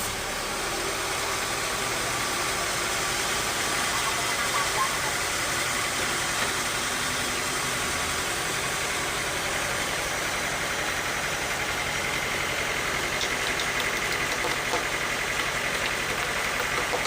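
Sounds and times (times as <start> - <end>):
bandsaw machinery drone: 0.0 - 17.0.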